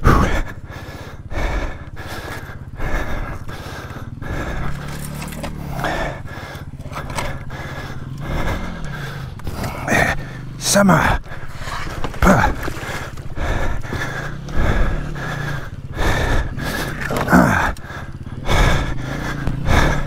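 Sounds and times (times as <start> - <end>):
dirt bike engine idling: 0.0 - 20.0
rider heavy breathing: 0.0 - 20.0.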